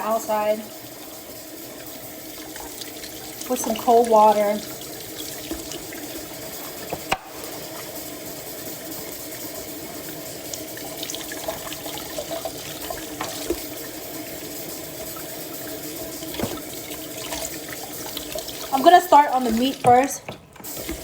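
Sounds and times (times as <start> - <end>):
tap water splashing: 1.2 - 8.1, 8.9 - 21.0.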